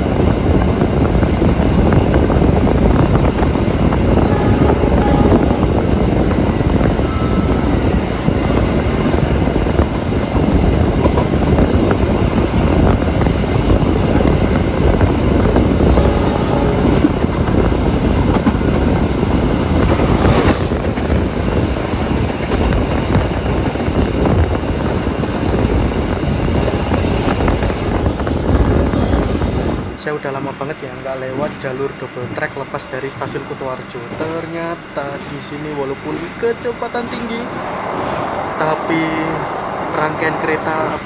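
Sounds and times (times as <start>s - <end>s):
train wheels on rail: 0.0s - 30.0s, 33.1s - 41.0s.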